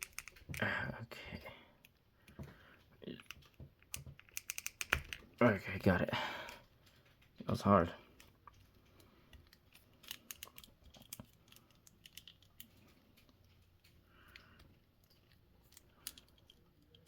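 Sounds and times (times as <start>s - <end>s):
plastic figure clicks and rustles: 0.0s - 0.7s, 1.8s - 17.0s.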